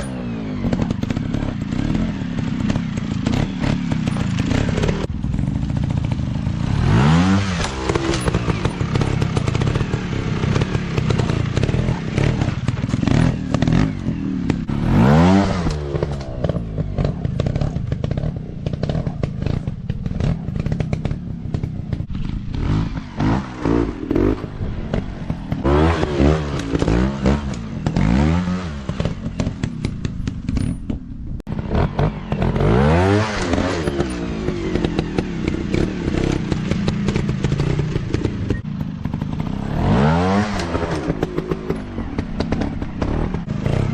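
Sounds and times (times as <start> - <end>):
dirt bike engine revving: 0.0 - 30.7, 31.5 - 43.9.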